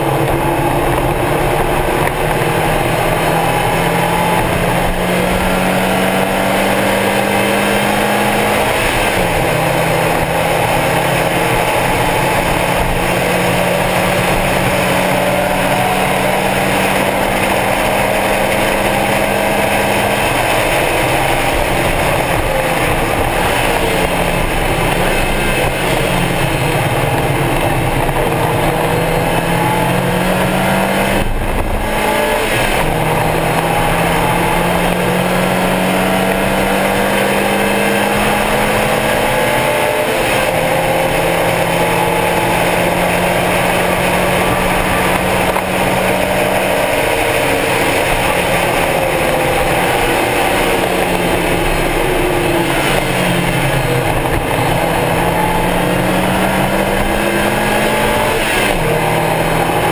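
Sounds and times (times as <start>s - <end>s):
car engine at high revs: 0.0s - 59.9s
wind and road noise: 0.0s - 59.9s.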